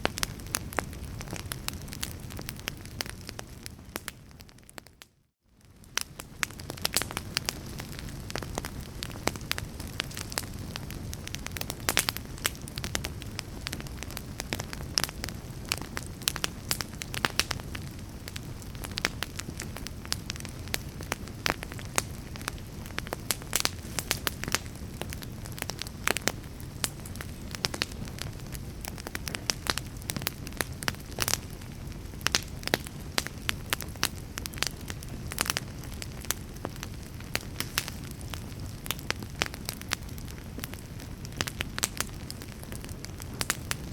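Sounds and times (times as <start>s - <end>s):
low rumble of burning: 0.0s - 43.9s
wood fire crackling and popping: 0.0s - 43.9s.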